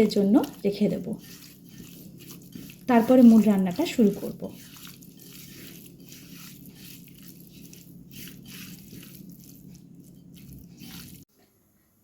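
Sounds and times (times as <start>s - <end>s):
soft squishing of raw meat: 0.1s - 11.3s.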